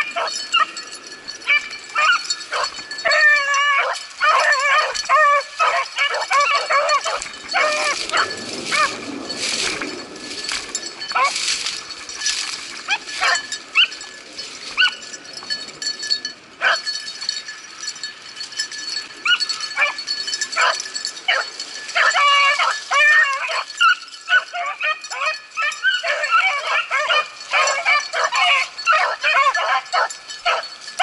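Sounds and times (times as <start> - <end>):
beagles baying: 0.0 - 15.2, 19.0 - 31.0.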